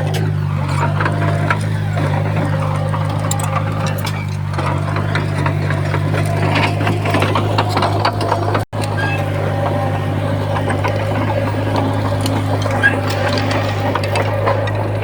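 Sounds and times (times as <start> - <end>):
bulldozer diesel engine running: 0.0 - 15.0
clatter of tracks and stones: 0.0 - 15.0.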